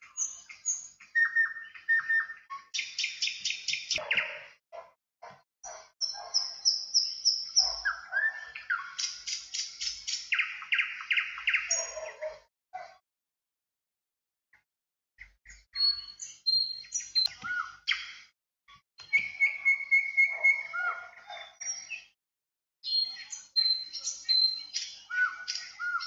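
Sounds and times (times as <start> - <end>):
songbirds singing: 0.0 - 4.6, 5.6 - 12.5, 15.2 - 18.3, 19.0 - 22.2, 22.8 - 26.0.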